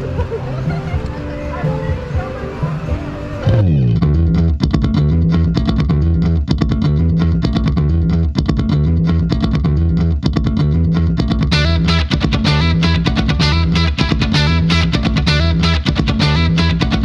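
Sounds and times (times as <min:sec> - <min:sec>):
music with heavy bass and guitar: 0:00.0 - 0:17.0.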